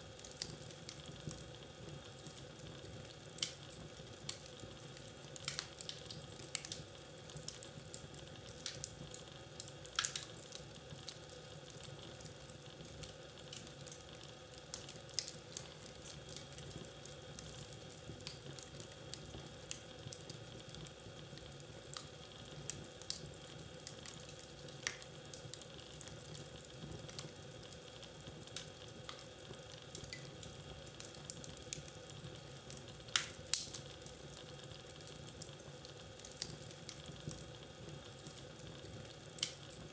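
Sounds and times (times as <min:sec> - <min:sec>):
wood fire crackling: 0:00.0 - 0:39.9
fire popping and snapping: 0:00.1 - 0:39.9.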